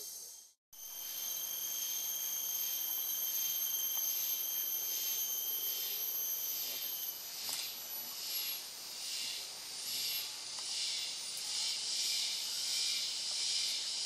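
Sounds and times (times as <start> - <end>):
insects high-pitched whine: 0.0 - 14.0
pulsing insect chorus: 0.0 - 14.0.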